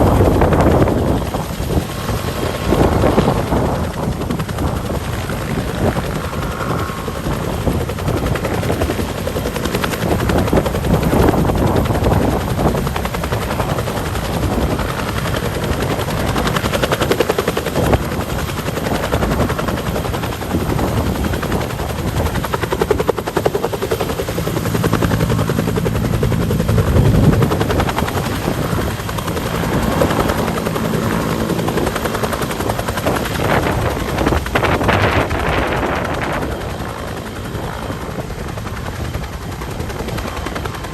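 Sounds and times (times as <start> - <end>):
helicopter rotor beating: 0.0 - 40.9.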